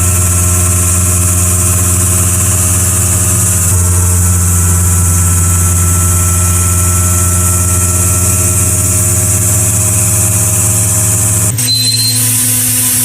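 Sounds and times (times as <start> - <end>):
faint high whine: 0.0 - 13.0
machine humming: 0.0 - 13.0.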